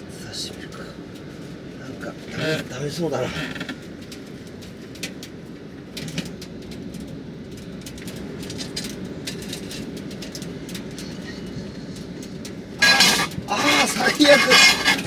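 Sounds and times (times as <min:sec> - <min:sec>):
wood fire crackling: 0:00.3 - 0:15.0.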